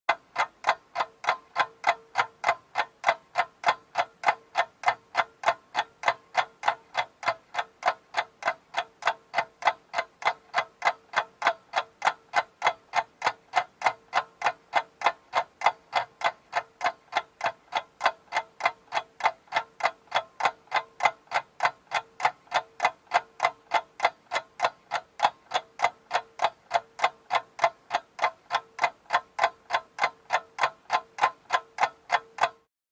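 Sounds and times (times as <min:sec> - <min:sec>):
clock ticking: 0:00.1 - 0:32.7.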